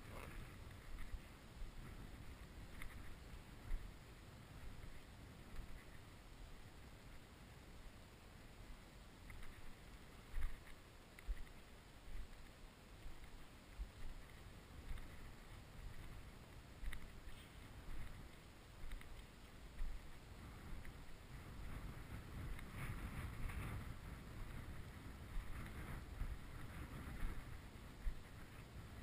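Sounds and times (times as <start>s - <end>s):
wind noise on microphone: 0.0s - 29.0s.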